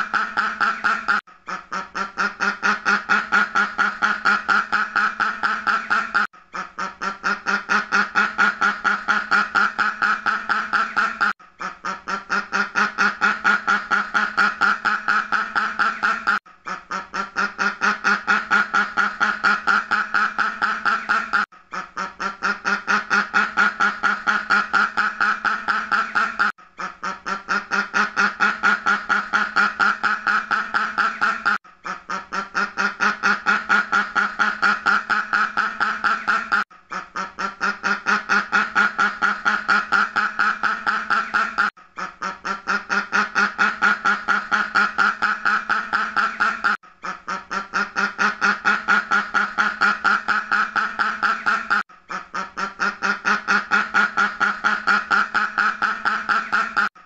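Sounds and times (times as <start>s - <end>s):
duck quacking: 0.0s - 57.0s.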